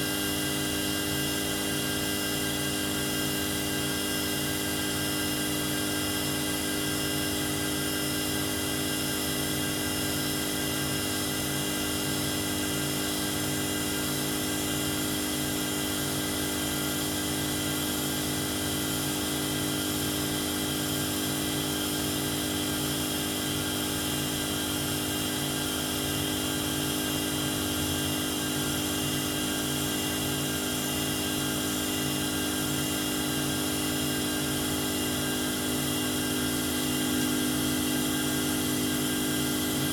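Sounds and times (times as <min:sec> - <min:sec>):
lathe humming and whining: 0:00.0 - 0:39.9.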